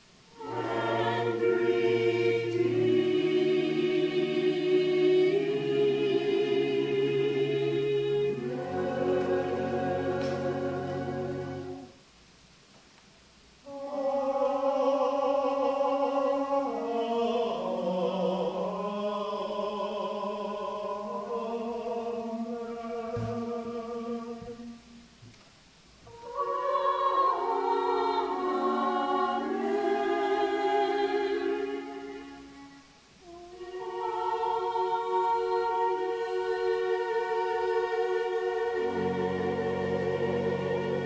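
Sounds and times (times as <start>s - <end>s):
choir singing in harmony: 0.3s - 12.0s, 13.6s - 25.1s, 26.0s - 41.0s.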